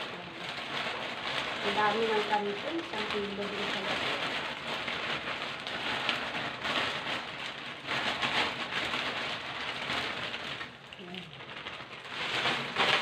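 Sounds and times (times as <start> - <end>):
broth boiling: 0.0 - 13.0
dry noodles rustling into wok: 0.0 - 13.0.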